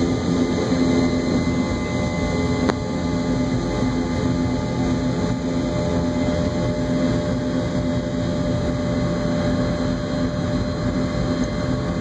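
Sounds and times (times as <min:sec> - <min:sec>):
jet engine hum: 0:00.0 - 0:12.0.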